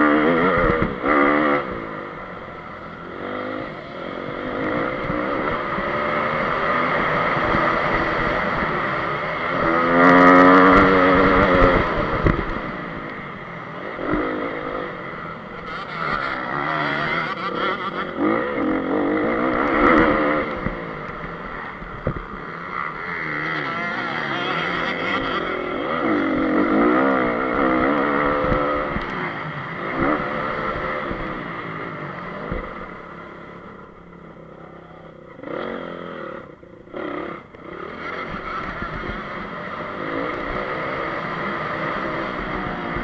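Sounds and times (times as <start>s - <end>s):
motocross bike engine revving: 0.0s - 43.0s.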